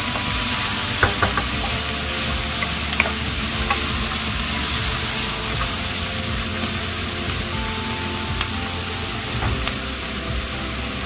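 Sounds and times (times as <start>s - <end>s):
food sizzling in hot pan: 0.0s - 11.0s.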